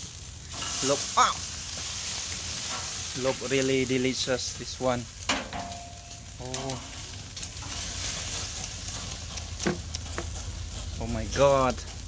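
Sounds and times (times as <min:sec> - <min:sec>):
fish sizzling on a grill: 0:00.0 - 0:12.0.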